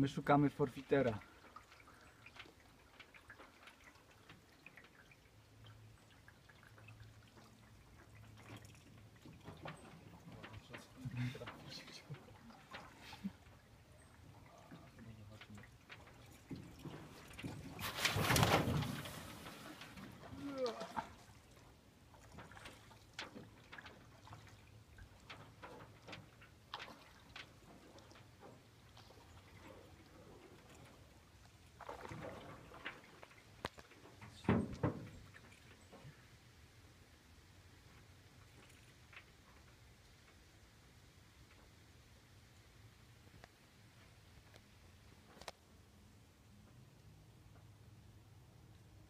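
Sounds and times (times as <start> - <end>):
water drips and ticks: 0.0 - 45.8, 46.6 - 49.0.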